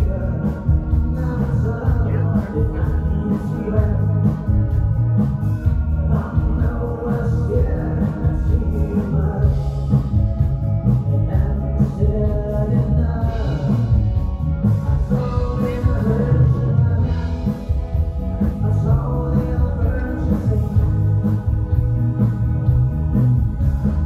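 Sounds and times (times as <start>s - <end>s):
person singing: 0.0s - 10.3s, 10.9s - 21.6s
live rock band playing: 0.0s - 24.0s.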